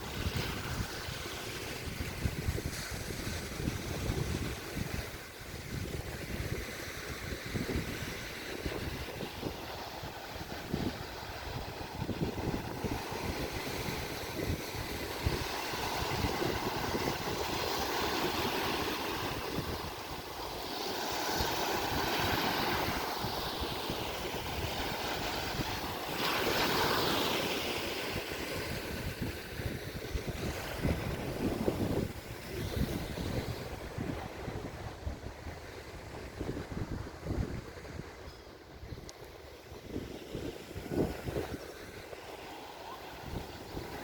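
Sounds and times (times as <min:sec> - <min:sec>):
sea waves washing onto beach: 0:00.0 - 0:44.0
wind buffeting microphone: 0:00.0 - 0:44.0.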